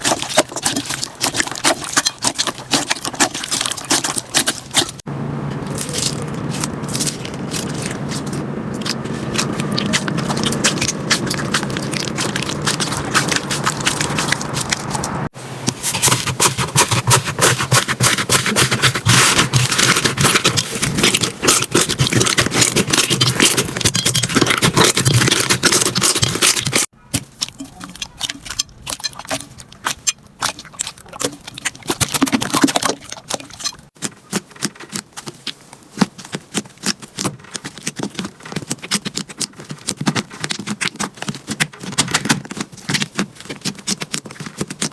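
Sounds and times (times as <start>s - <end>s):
slime squeezed by hand crackling: 5.6s - 44.9s.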